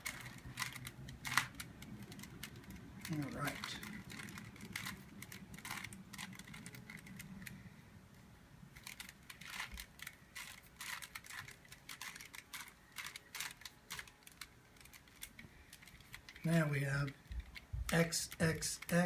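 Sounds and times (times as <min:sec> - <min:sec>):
plastic puzzle cube clicking: 0:00.0 - 0:07.6, 0:08.7 - 0:19.0.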